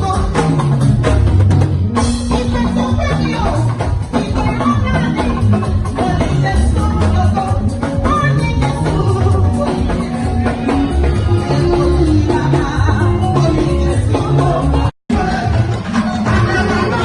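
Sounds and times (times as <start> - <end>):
drums: 0.0 - 17.0
person singing: 2.2 - 17.0.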